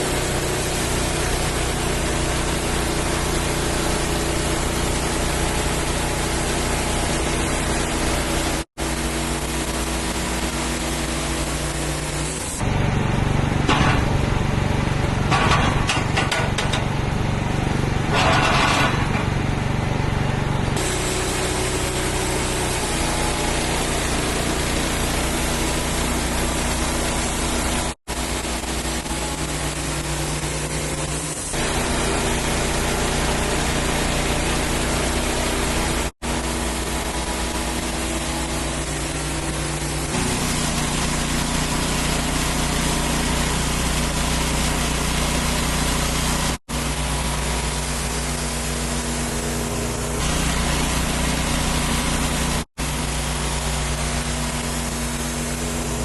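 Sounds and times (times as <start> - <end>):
bandsaw mill sawing log: 0.0 - 56.0.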